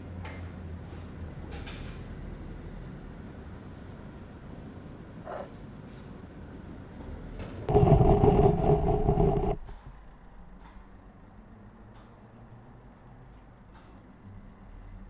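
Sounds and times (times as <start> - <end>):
faint low street hum: 0.0 - 7.8, 9.5 - 15.0.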